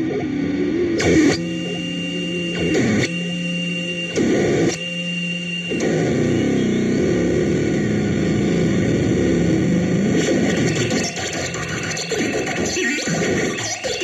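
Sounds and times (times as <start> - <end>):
warbling electronic drone: 0.0 - 14.0.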